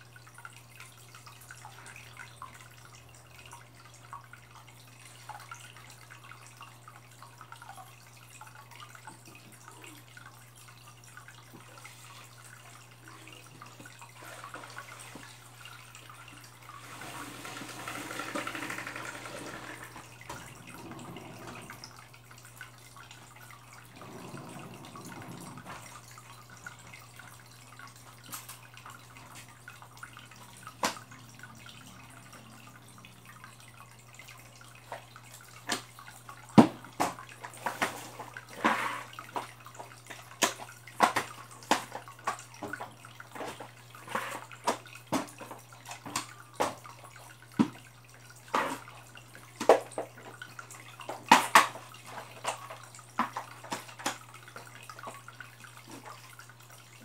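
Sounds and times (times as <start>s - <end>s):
water dripping into aquarium: 0.0s - 16.9s, 17.9s - 57.0s.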